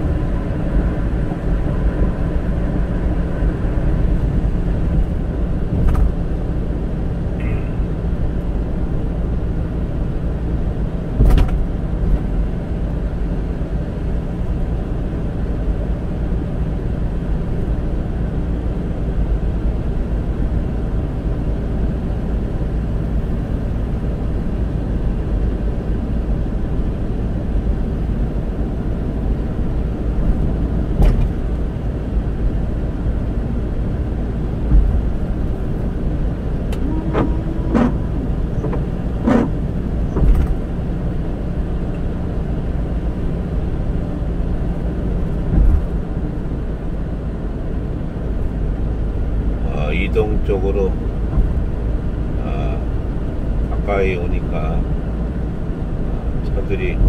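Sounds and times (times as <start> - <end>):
tyre and engine noise in car: 0.0 - 57.0.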